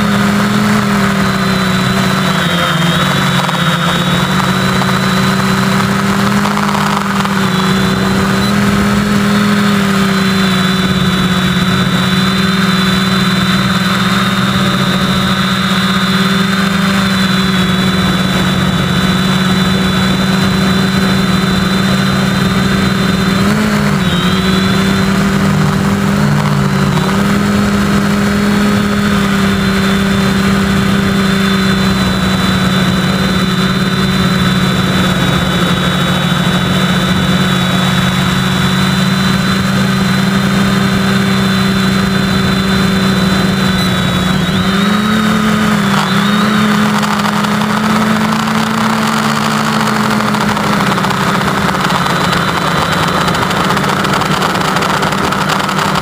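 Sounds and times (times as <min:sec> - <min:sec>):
quadcopter propellers humming: 0:00.0 - 0:56.0.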